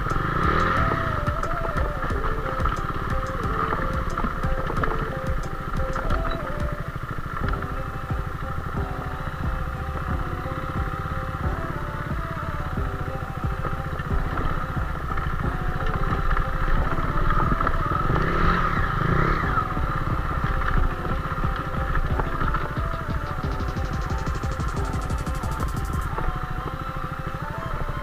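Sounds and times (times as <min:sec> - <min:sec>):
motorcycle engine at low revs: 0:00.0 - 0:26.2.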